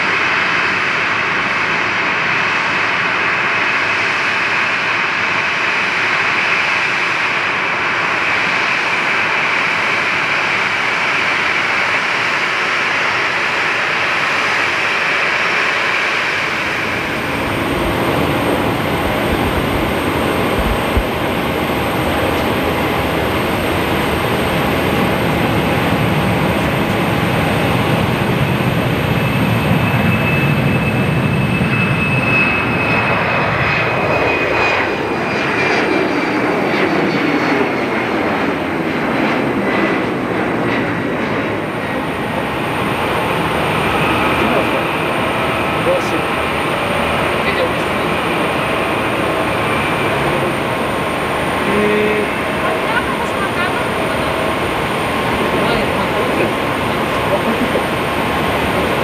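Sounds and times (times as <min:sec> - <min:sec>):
jet engines rumble and whine: 0:00.0 - 0:59.0
jet engines whining rush: 0:00.0 - 0:59.0.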